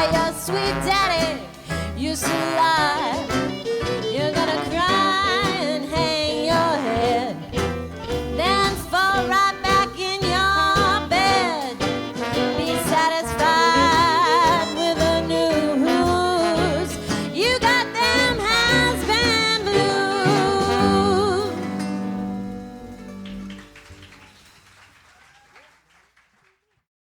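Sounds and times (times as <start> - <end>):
old-time jazz band: 0.0 - 24.9.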